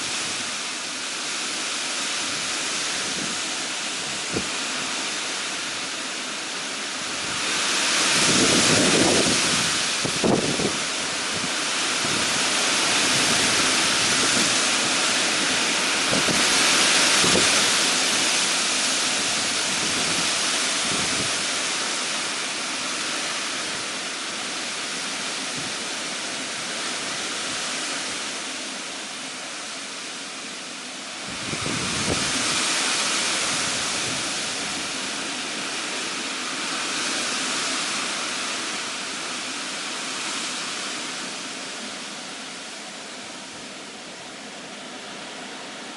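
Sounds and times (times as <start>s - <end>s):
heavy rain hissing: 0.0s - 45.9s
wind gusts: 0.0s - 45.9s.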